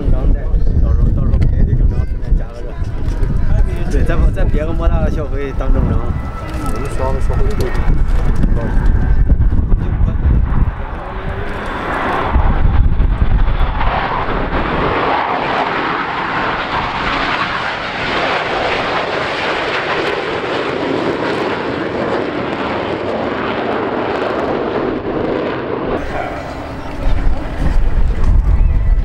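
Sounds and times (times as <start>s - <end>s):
deep rumble: 0.0s - 19.3s, 20.3s - 29.0s
fighter jets roaring past: 1.8s - 29.0s.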